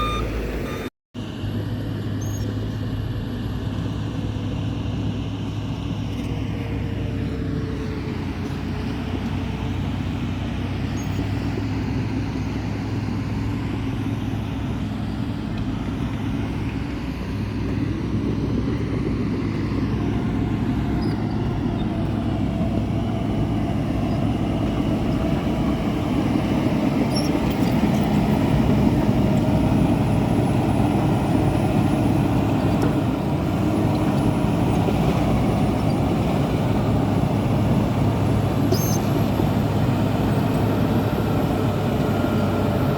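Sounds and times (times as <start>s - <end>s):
motor vehicle engine rumbling: 0.0s - 42.9s.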